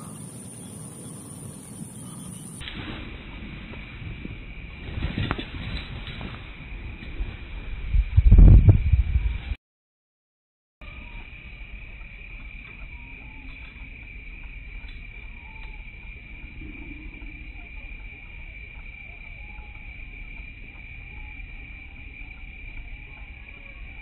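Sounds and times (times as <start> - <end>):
high insect drone: 0.0 - 8.2, 10.8 - 24.0
wind rumble: 0.0 - 9.6, 10.8 - 24.0.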